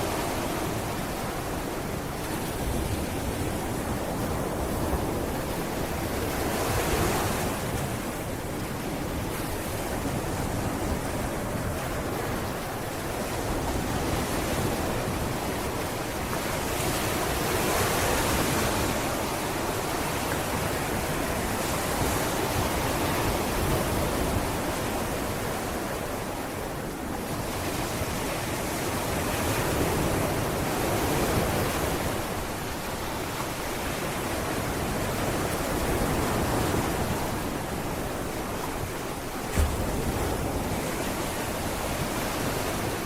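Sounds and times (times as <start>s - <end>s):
sea waves washing onto beach: 0.0s - 43.0s.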